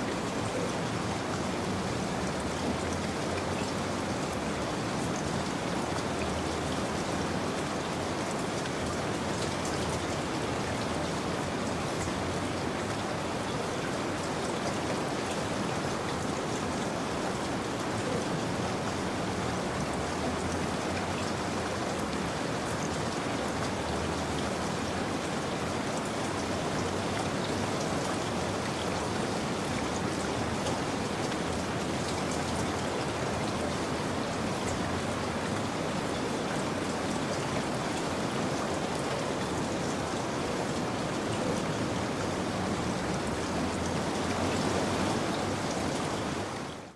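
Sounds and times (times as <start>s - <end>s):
steady rain pattering: 0.0s - 46.9s.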